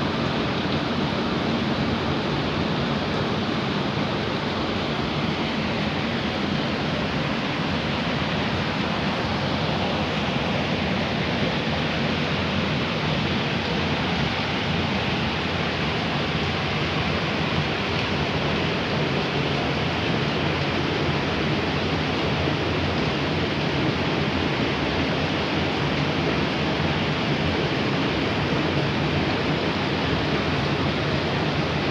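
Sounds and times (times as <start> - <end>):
water rushing: 0.0 - 31.9.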